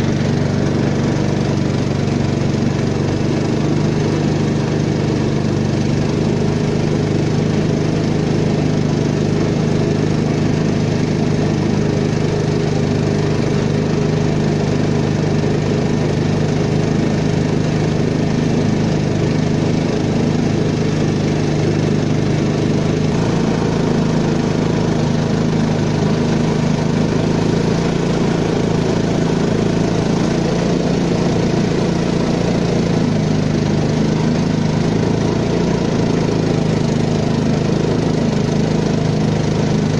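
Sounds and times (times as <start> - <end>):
boat outboard engine running: 0.0 - 39.9.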